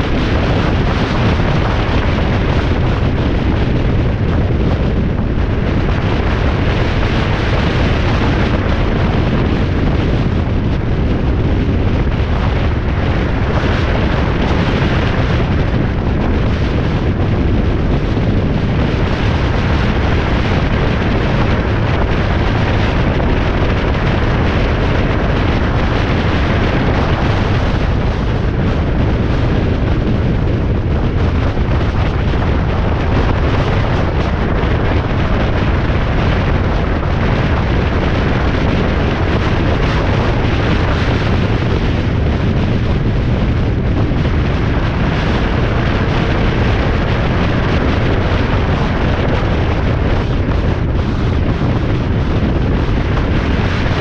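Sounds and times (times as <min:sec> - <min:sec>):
wind and road noise: 0:00.0 - 0:54.0
wind buffeting microphone: 0:00.0 - 0:54.0.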